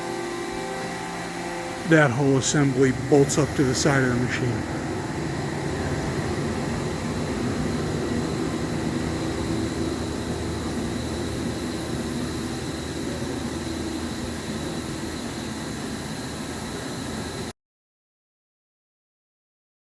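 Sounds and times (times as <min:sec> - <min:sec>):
faint high whine: 0:00.0 - 0:17.5
shop machinery humming: 0:00.0 - 0:17.5.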